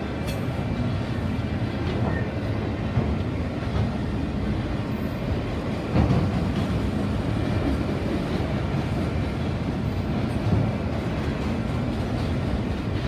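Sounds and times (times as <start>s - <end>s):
steel wheels rumbling on rail: 0.0s - 13.0s
train car clunk: 0.0s - 13.0s.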